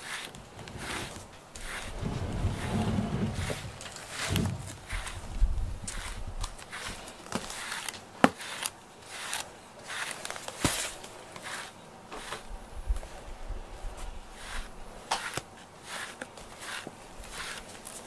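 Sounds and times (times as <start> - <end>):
brush stroking cat fur: 0.0 - 18.0.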